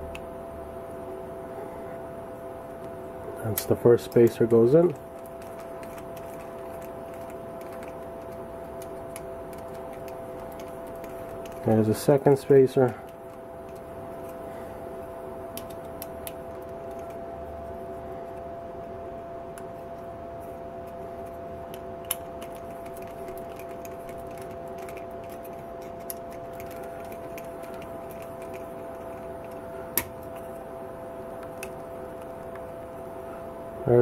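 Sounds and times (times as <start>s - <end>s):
steady two-tone hum: 0.0s - 34.0s.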